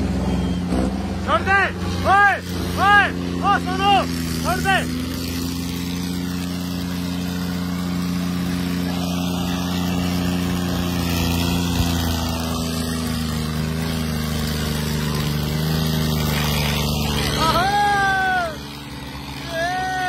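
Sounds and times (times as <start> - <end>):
tractor diesel engines under load: 0.0 - 20.0.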